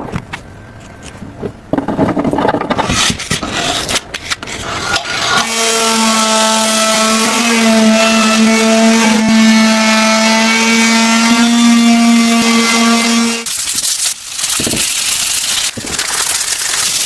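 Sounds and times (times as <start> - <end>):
scraping and rubbing: 0.1 - 13.8.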